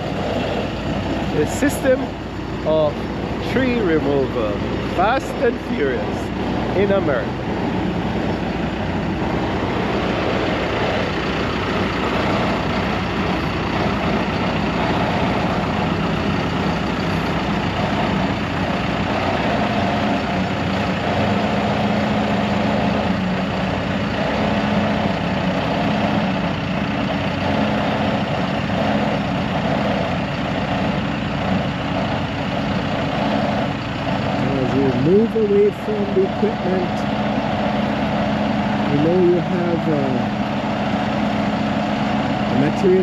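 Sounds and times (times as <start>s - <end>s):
heavy equipment engine running: 0.0s - 43.0s.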